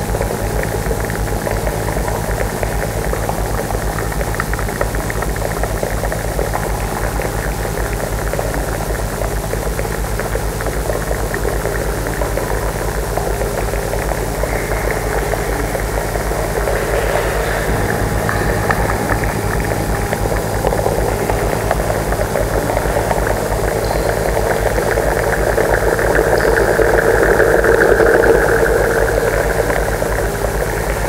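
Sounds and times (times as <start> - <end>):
experimental electronic music: 0.0 - 31.0.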